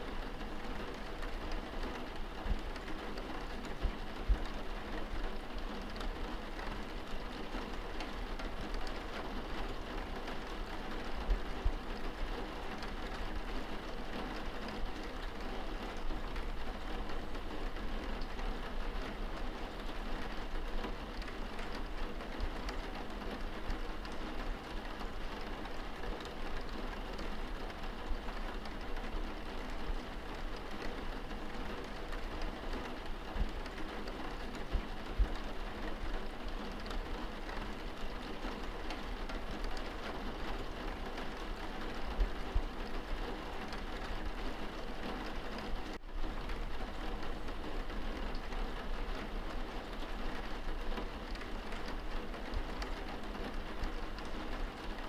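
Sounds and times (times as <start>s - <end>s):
rain pattering on window: 0.0s - 55.0s.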